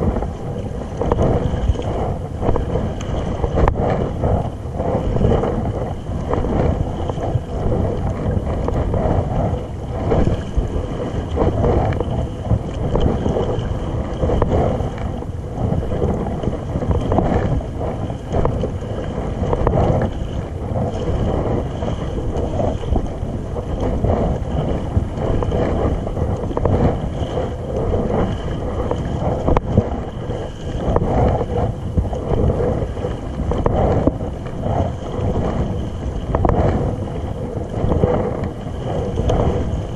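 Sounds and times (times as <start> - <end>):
water splashing against hull: 0.0 - 39.9
wind rumbling on microphone: 0.0 - 39.9.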